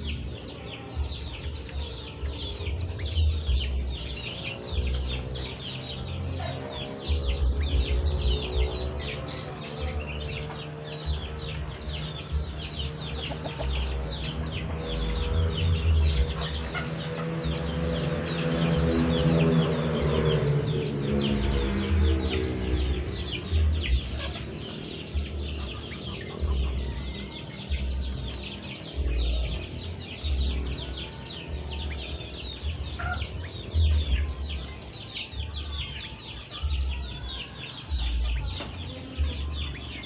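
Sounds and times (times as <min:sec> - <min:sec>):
low rumble: 0:01.0 - 0:35.9.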